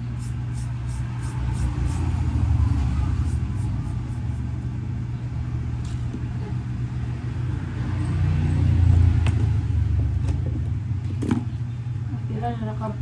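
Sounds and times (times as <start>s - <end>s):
low motor rumble: 0.0s - 13.0s.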